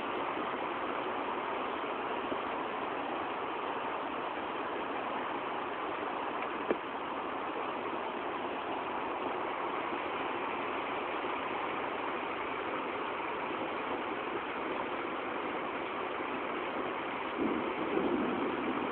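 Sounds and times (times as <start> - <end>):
heavy rain pouring: 0.0 - 18.9.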